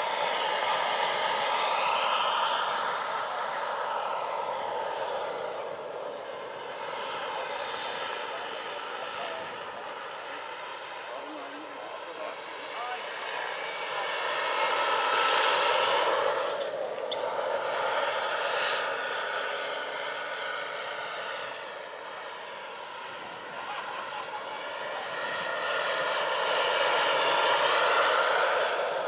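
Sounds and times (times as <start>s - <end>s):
model helicopter turbine whine: 0.0s - 29.0s.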